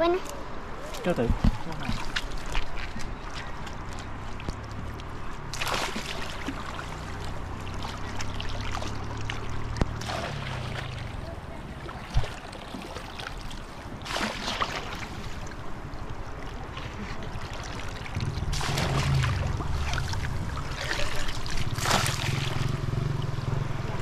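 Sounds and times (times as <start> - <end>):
water sloshing and splashing: 0.7 - 24.0.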